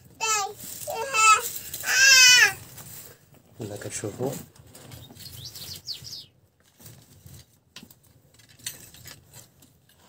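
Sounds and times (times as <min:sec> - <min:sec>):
straw and twigs crackling in fire: 0:00.0 - 0:09.4.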